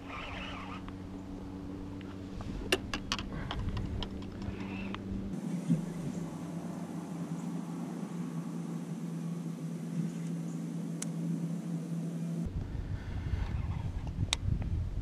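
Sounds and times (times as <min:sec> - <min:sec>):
electric motor humming: 0:00.0 - 0:12.7.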